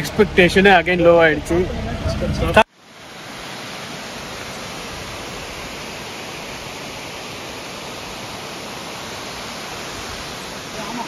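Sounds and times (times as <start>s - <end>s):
rushing forest stream: 0.0s - 11.0s.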